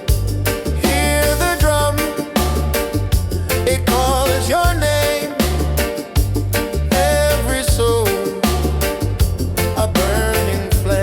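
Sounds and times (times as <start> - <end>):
reggae music: 0.0 - 11.0.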